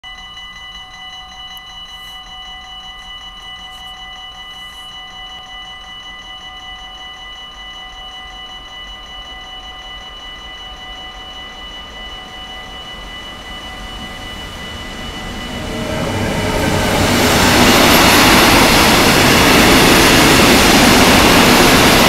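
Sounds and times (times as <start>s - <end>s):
level crossing warning bell: 0.0s - 22.0s.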